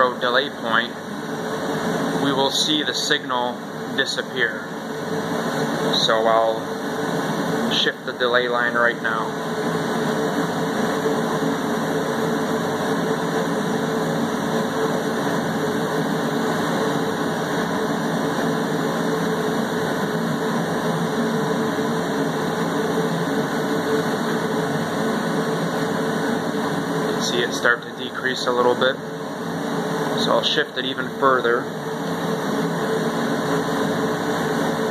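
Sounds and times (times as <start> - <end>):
fan rushing: 0.0 - 34.9
lab machine hum: 0.0 - 34.9.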